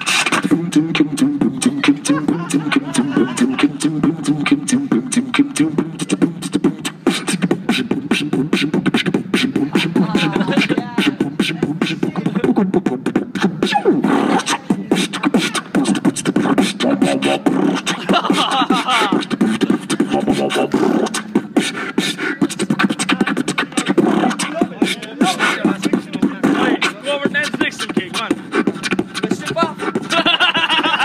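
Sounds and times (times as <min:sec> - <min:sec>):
beatboxing: 0:00.0 - 0:31.0.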